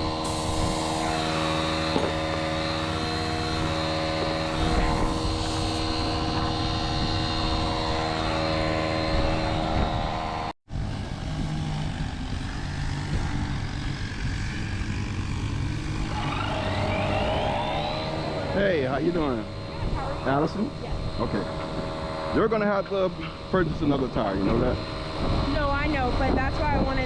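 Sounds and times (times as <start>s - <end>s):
motor running steadily: 0.0s - 27.0s.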